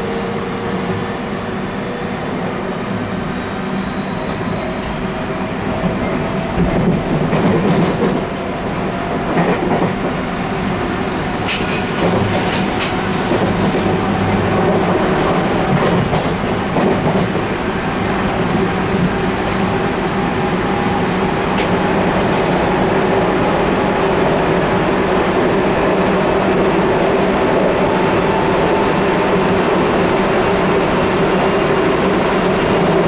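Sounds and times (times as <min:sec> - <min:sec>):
train interior rumble: 0:00.0 - 0:33.0.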